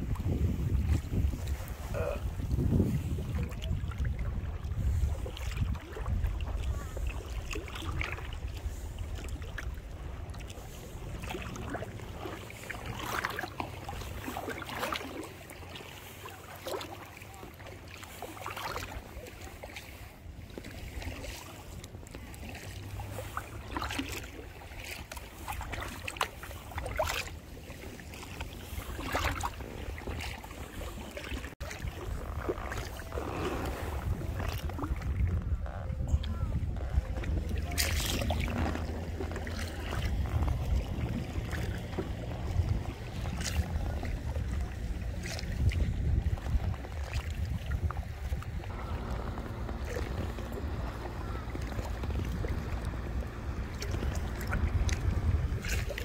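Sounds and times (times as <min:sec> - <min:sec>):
paddle strokes splashing: 0:00.0 - 0:56.0.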